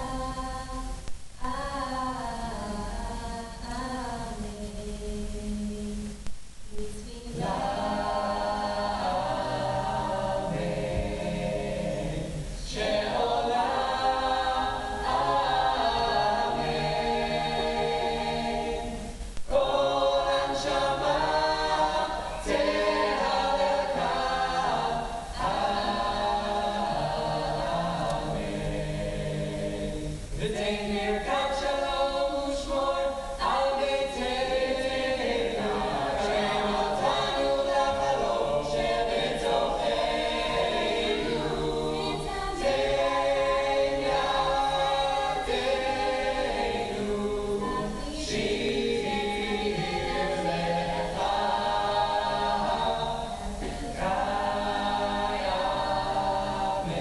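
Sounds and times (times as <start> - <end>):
a cappella group singing in harmony: 0.0 - 57.0.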